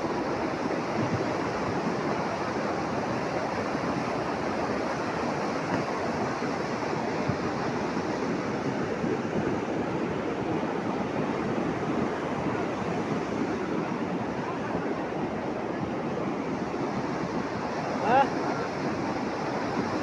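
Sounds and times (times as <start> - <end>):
fast-flowing water rushing: 0.0 - 20.0.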